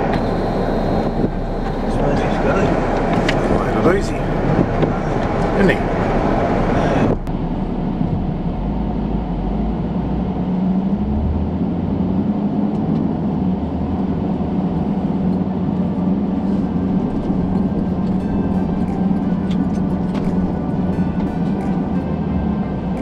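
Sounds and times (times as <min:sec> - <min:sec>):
truck engine drone: 0:00.0 - 0:23.0
tyre and road rumble: 0:00.0 - 0:23.0.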